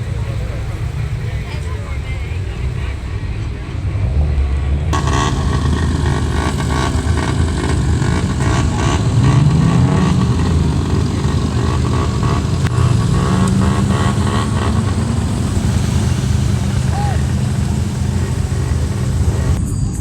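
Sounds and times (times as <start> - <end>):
car engine revving: 0.0 - 19.6
car engines running: 0.0 - 19.6.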